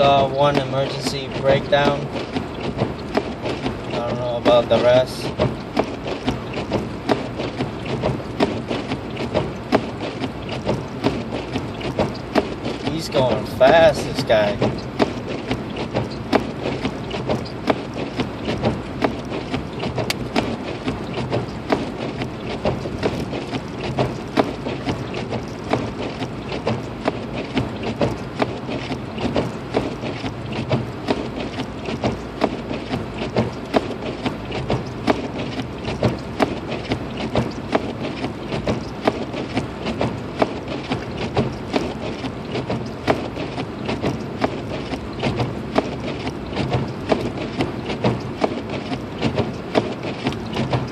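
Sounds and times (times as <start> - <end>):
car road and drivetrain drone: 0.0 - 50.9
sharp irregular ticks: 0.0 - 50.9.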